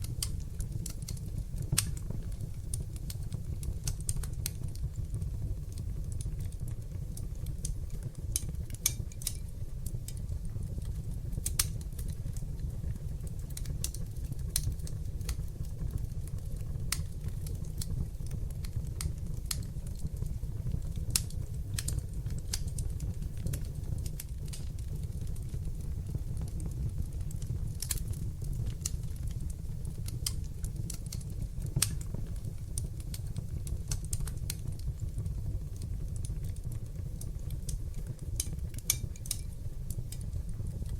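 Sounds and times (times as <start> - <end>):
fire crackling and popping: 0.0 - 40.9
fire rumbling in fireplace: 0.0 - 40.9.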